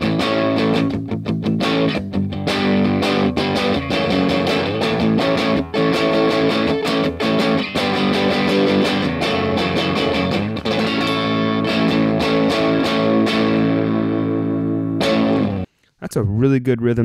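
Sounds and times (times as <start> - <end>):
overdriven electric guitar chords: 0.0 - 15.7.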